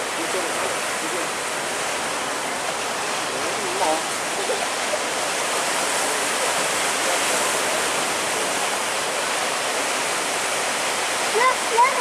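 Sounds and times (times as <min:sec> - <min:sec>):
sea water rushing: 0:00.0 - 0:12.0
wind: 0:00.0 - 0:12.0.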